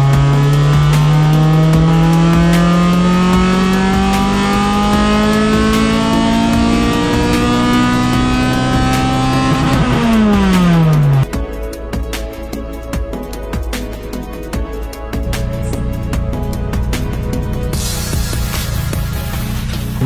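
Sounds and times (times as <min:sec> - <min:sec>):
car engine revving: 0:00.0 - 0:11.3, 0:15.2 - 0:20.0.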